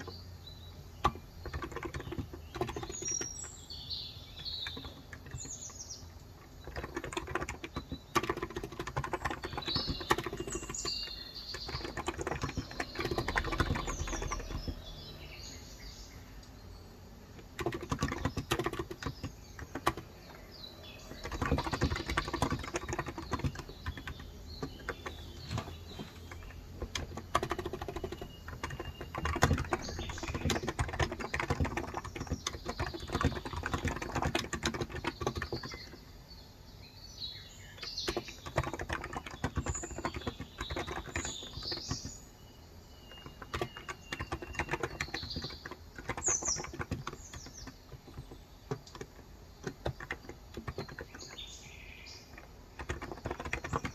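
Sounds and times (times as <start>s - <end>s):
fast keyboard typing: 0.0s - 15.3s, 17.3s - 36.1s, 37.7s - 53.9s
birds chirping: 0.0s - 53.9s.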